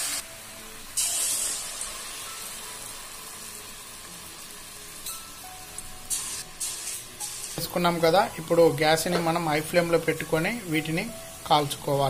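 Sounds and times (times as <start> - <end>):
fritters deep-frying in hot oil: 0.0 - 12.0.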